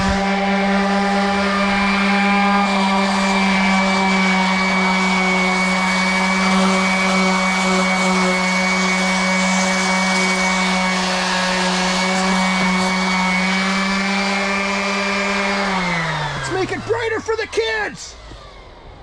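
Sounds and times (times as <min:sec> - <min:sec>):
sandpaper hissing on wood: 0:00.0 - 0:17.4
orbital sander motor hum: 0:00.0 - 0:19.0.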